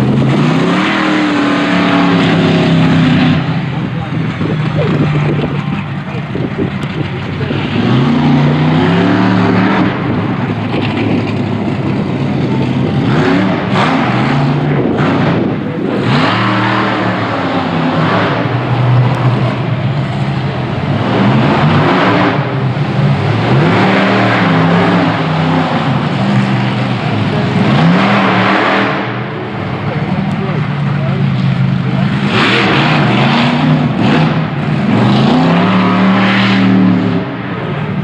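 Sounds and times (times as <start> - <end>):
monster truck engine revving: 0.0 - 38.0.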